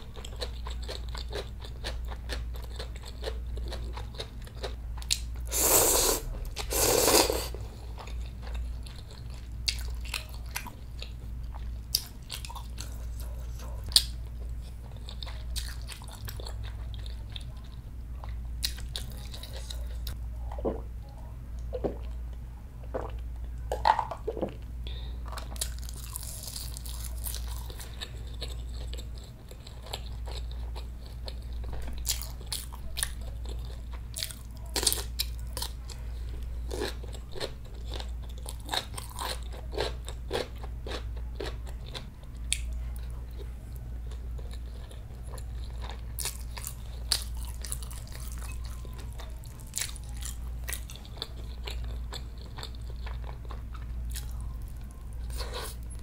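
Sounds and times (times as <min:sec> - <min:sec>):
person chewing and crunching: 0:00.0 - 0:20.8, 0:23.8 - 0:56.0
low steady hum: 0:00.0 - 0:56.0.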